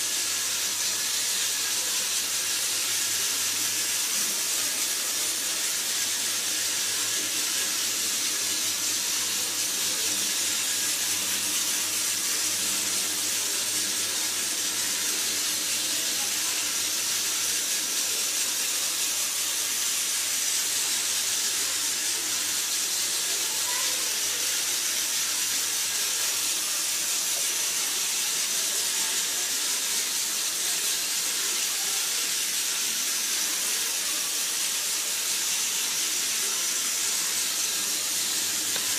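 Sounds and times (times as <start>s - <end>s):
toy train motor whirring: 0.0s - 38.9s.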